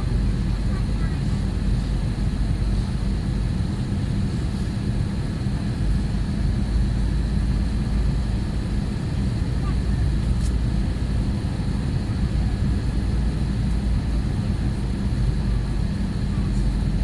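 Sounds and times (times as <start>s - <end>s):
jet cabin engine rumble: 0.0s - 17.0s.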